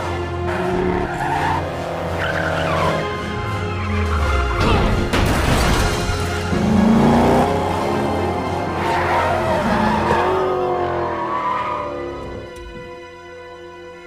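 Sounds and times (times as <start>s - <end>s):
race cars running: 0.0s - 4.6s, 6.2s - 13.1s
orchestral film music: 0.0s - 14.0s.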